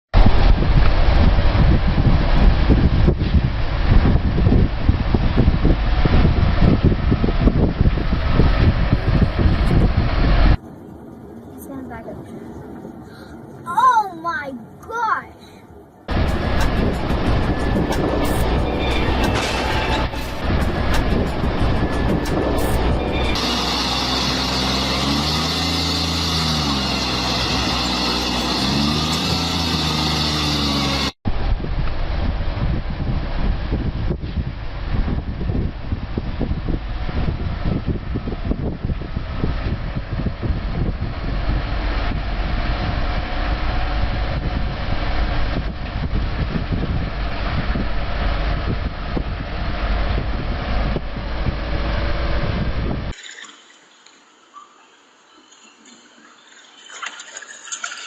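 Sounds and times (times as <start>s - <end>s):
road and wind noise: 0.1s - 58.0s
vehicle engine running: 0.2s - 13.6s, 15.8s - 53.2s.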